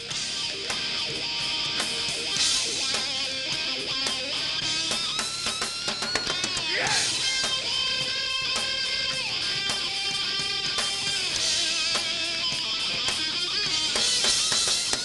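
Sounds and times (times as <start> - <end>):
drums: 0.0 - 15.0
electric guitar lead: 0.0 - 15.0.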